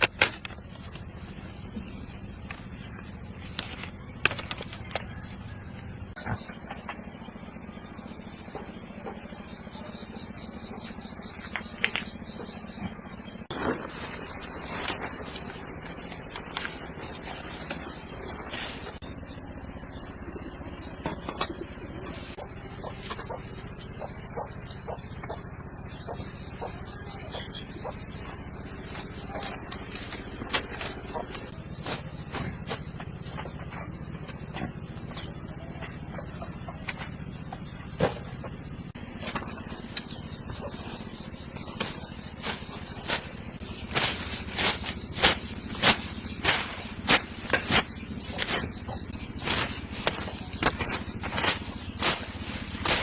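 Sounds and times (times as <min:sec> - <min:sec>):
birds calling: 0:00.0 - 0:53.0
crickets chirping: 0:00.0 - 0:53.0
high insect whine: 0:00.0 - 0:53.0.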